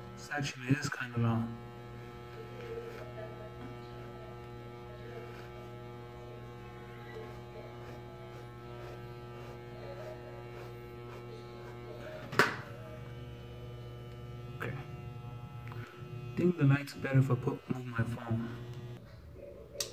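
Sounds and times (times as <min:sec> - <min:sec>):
electric beard trimmer buzzing: 0:00.0 - 0:19.0.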